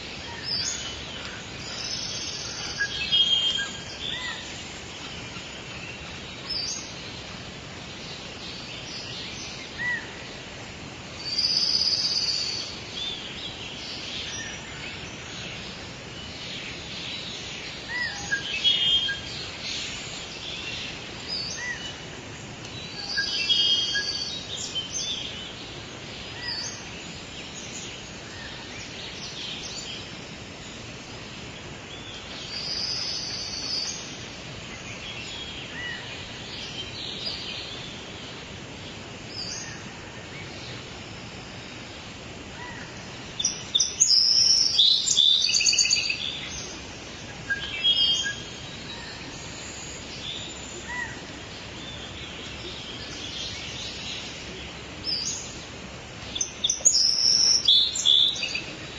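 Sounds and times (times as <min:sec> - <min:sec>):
outdoor background hiss: 0:00.0 - 0:58.9
songbirds singing: 0:00.0 - 0:58.9.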